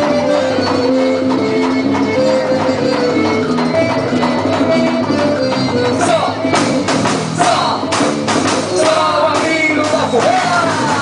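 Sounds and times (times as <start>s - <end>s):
sustained melody notes: 0.0s - 10.9s
percussion hits: 0.0s - 11.0s.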